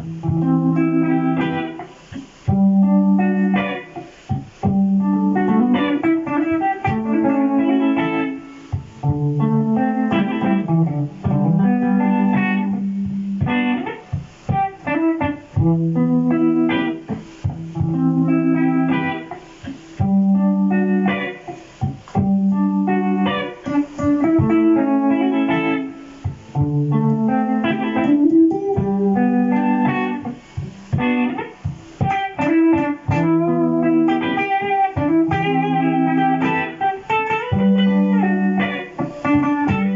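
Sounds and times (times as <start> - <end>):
jazz electric guitar melody: 0.0 - 39.9.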